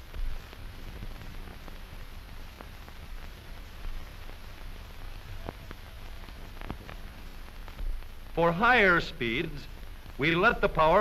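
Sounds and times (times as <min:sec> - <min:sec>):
faint crackle clicks: 0:00.0 - 0:08.4, 0:09.2 - 0:11.0
film soundtrack hiss and rumble: 0:00.0 - 0:11.0.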